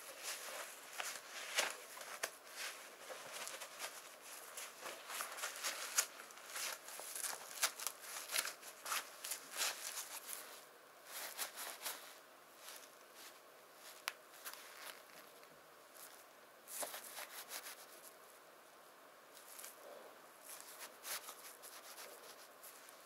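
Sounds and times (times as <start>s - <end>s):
gloves rustling and scuffing: 0.0s - 18.2s, 20.4s - 23.0s.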